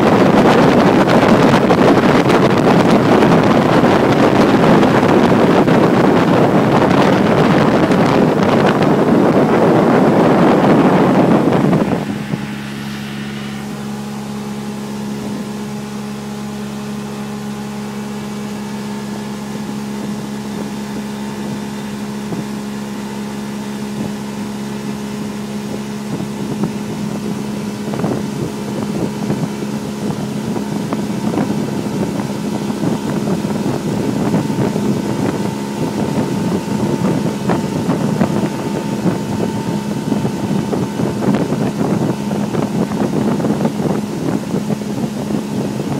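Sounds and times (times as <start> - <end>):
choppy wind and water: 0.0 - 45.9
motorboat engine running: 0.0 - 45.9.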